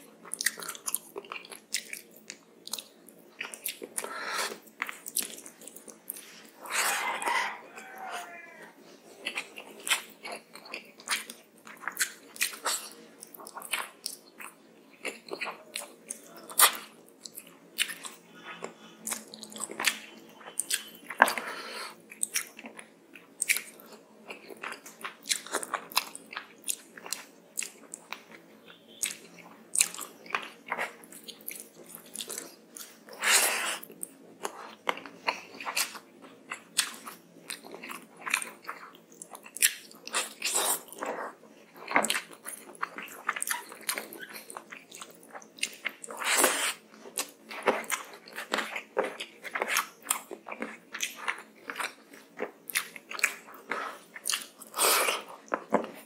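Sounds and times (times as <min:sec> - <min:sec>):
wet chewing and lip smacking: 0:00.2 - 0:56.0.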